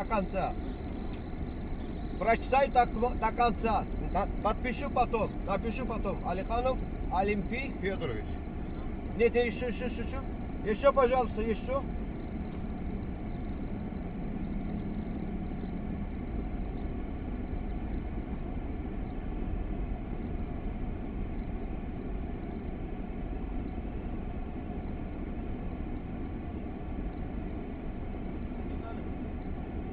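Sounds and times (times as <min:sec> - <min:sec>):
car idling inside cabin: 0:00.0 - 0:29.9.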